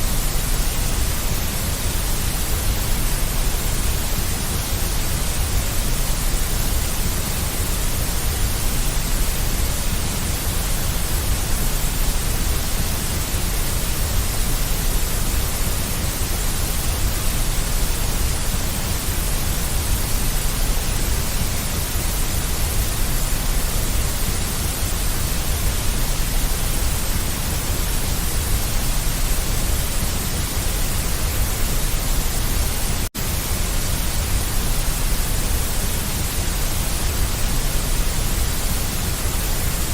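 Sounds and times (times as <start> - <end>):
deep white noise with low rumble: 0.0 - 39.9.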